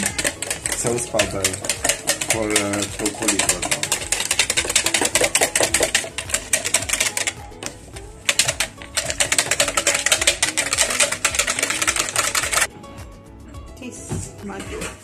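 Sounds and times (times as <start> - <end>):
whisk rattling in plastic jug: 0.0 - 12.7.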